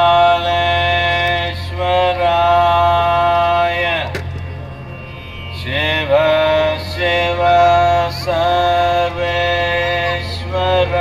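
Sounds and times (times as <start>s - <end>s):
man singing long held notes: 0.0s - 4.2s, 5.5s - 11.0s
steady low drone: 0.0s - 11.0s.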